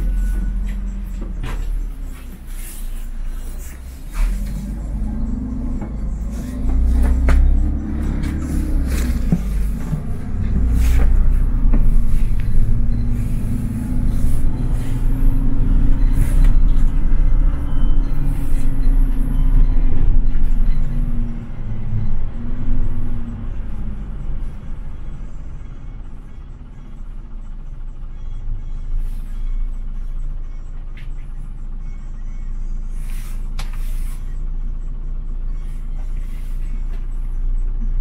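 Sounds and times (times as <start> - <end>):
bus engine drone: 0.0 - 38.0
road noise rumble: 0.0 - 38.0.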